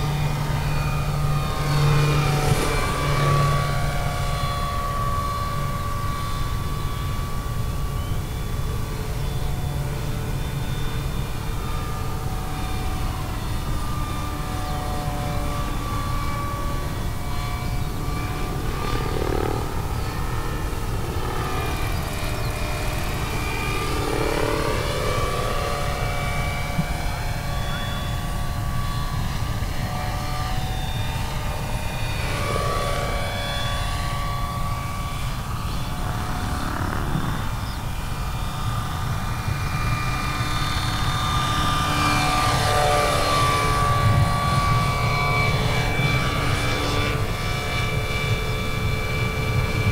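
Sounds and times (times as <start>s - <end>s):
rc helicopter whine: 0.0s - 49.9s
rotor rumble: 0.0s - 49.9s.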